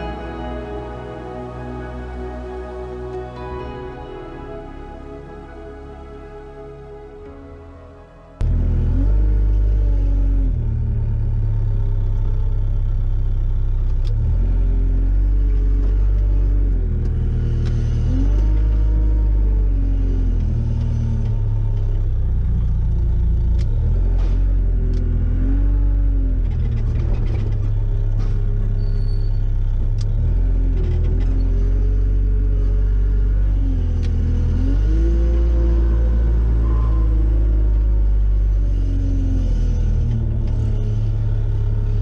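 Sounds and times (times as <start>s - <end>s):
loader engine revving: 0.0s - 12.1s, 13.3s - 42.0s.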